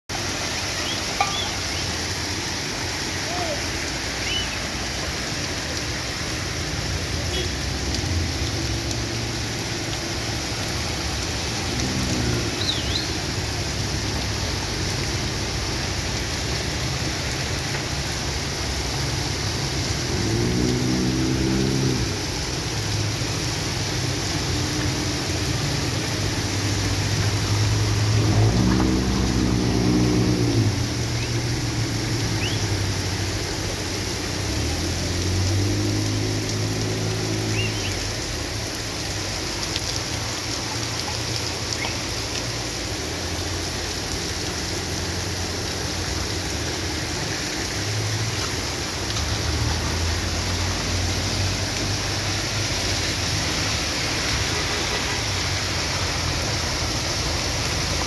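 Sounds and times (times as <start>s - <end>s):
cars driving through water: 0.1s - 58.0s
heavy rain on flooded street: 0.1s - 58.0s.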